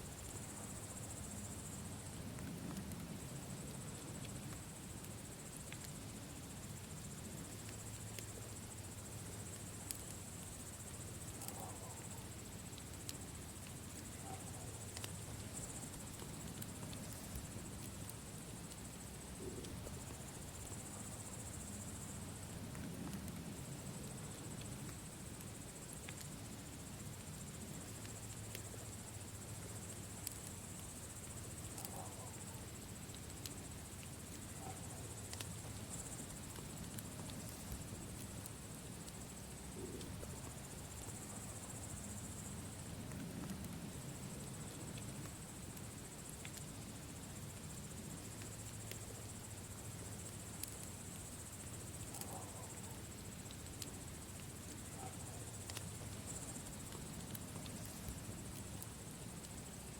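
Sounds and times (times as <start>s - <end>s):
crickets chirring: 0.0s - 59.9s
campfire crackling and popping: 1.8s - 59.9s.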